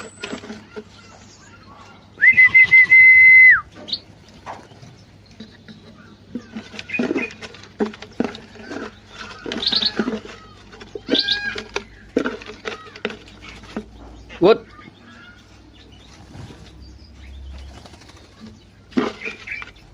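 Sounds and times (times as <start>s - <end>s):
birds chirping and calling: 0.0s - 19.9s.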